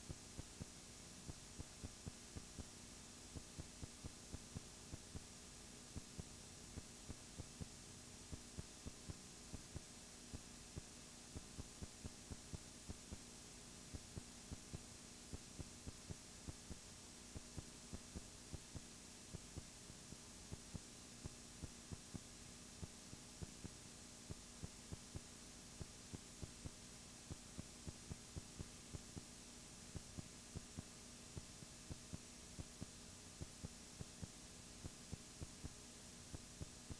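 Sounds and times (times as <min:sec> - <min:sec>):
faint electrical hum: 0:00.0 - 0:36.9.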